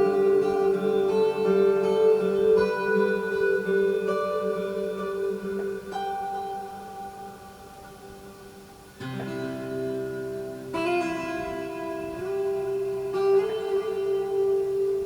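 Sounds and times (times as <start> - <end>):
held drone tone: 0.0 - 15.0
plucked string notes: 0.0 - 15.0.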